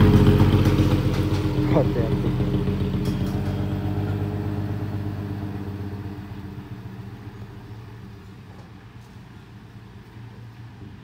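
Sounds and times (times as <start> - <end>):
truck diesel engine running: 0.0 - 9.0.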